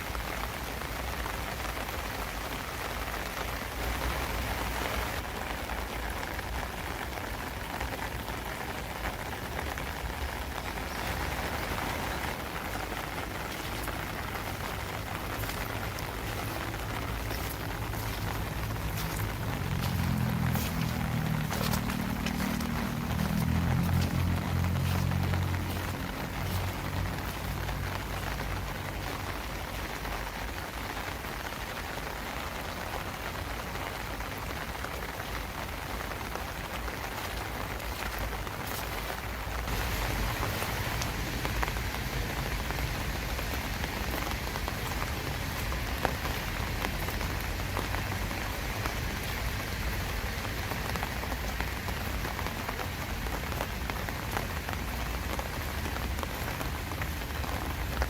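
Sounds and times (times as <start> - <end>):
rain pattering on surfaces: 0.0 - 58.0.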